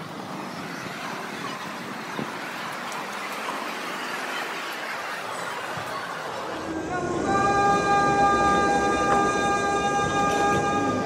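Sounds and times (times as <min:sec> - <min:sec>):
hubbub of a large crowd: 0:00.0 - 0:11.0.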